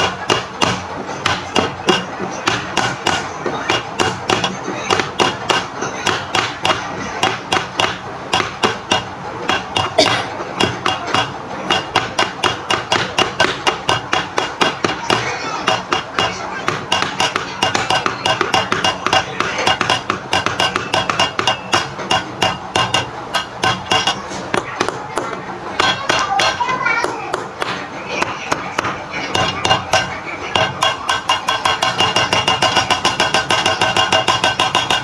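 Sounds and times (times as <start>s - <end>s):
fast regular knocking: 0.0s - 35.0s.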